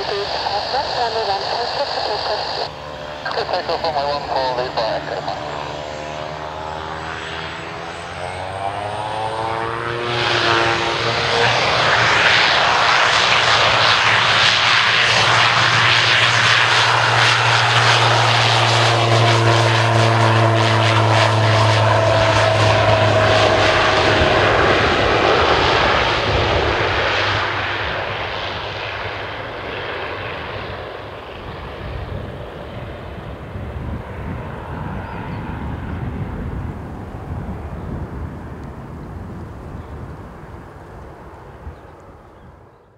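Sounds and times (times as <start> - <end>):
turboprop engine at take-off: 0.0 - 42.9.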